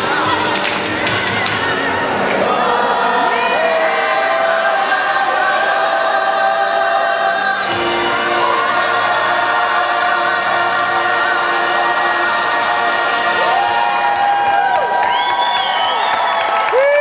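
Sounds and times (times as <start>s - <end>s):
choir singing long notes: 0.0s - 15.2s.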